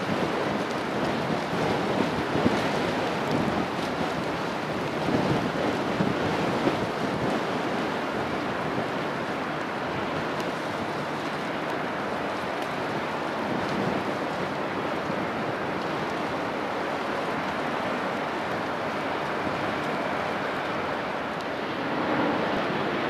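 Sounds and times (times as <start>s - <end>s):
sea water rushing: 0.0s - 23.0s.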